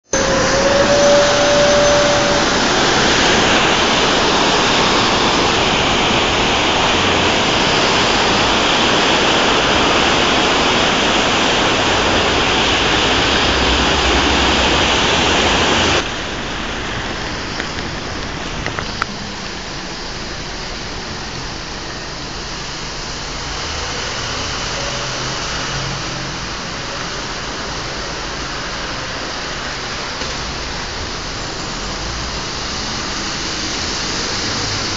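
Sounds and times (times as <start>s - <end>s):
floodwater rushing: 0.0s - 34.9s
rain: 0.0s - 34.9s.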